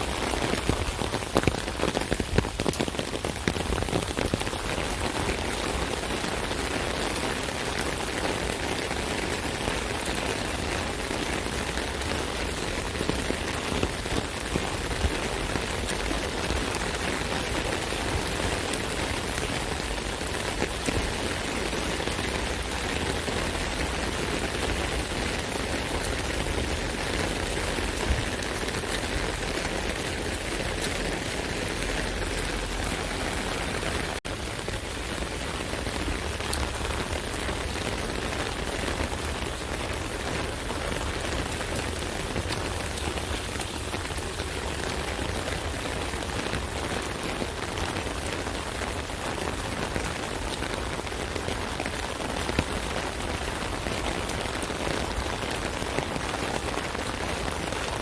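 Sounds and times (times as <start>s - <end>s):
rain pattering on an umbrella: 0.0s - 58.0s.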